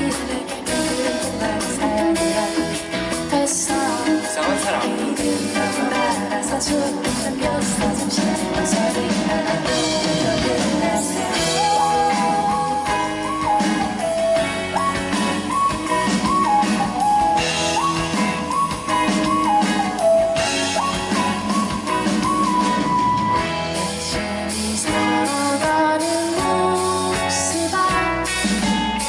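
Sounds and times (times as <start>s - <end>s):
live band playing indie pop: 0.0s - 29.0s.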